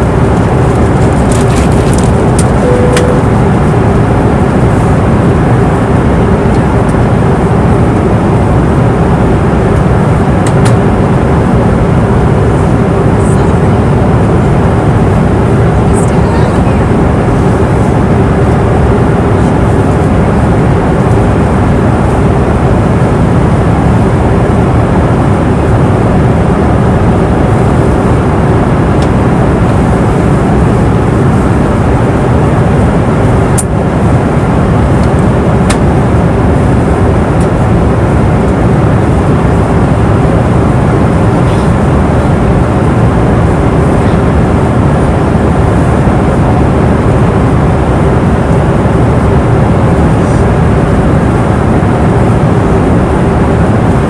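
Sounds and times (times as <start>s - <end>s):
airliner cabin rumble: 0.0s - 54.0s
constant hum: 0.0s - 54.0s.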